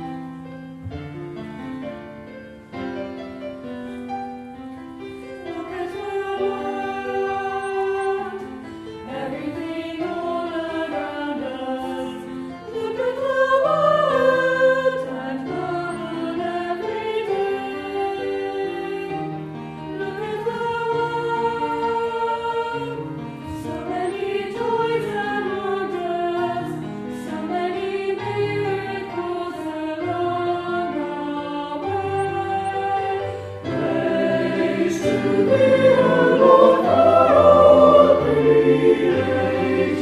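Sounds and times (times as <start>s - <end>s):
keyboard accompaniment: 0.0s - 40.0s
choir singing a hymn: 5.0s - 40.0s.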